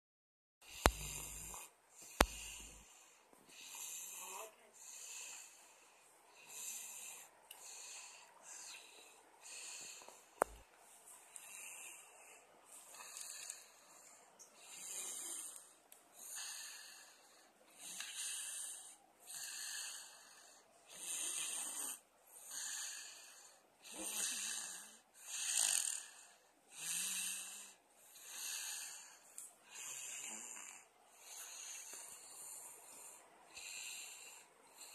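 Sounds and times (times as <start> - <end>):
person snoring: 0.7 - 3.0, 6.4 - 10.6, 12.9 - 34.9.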